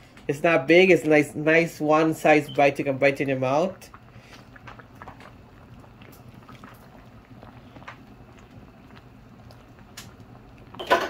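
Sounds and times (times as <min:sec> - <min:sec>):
soup bubbling in a pot: 0:00.0 - 0:11.0.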